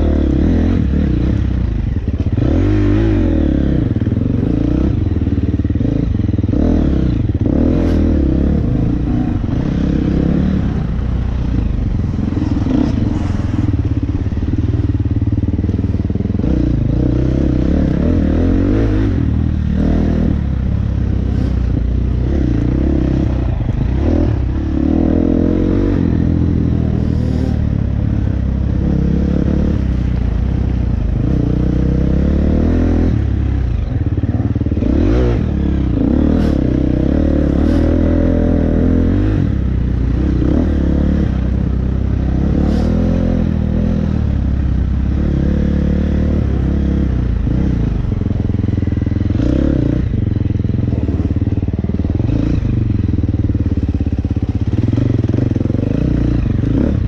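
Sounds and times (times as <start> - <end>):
dirt bike engine revving: 0.0 - 44.4, 45.0 - 57.0.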